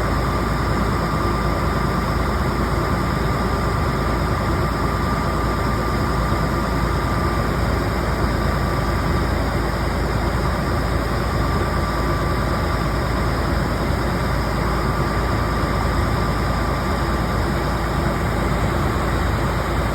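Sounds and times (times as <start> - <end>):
drill rig engine rumbling: 0.0 - 19.9.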